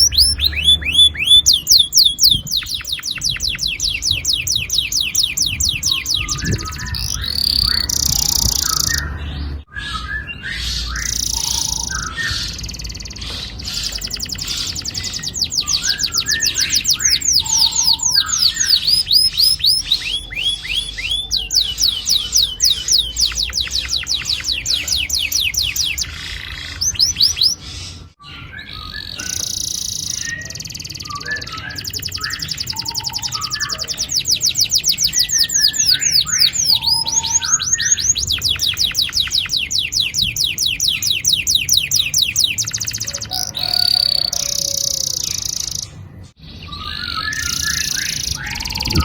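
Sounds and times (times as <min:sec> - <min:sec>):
canary singing rolling trills: 0:00.0 - 0:49.0
lower chirps: 0:00.0 - 0:49.0.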